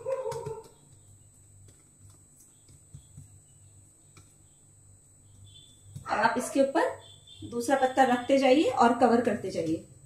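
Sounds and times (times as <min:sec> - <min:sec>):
fingers spreading batter: 0:00.0 - 0:08.8.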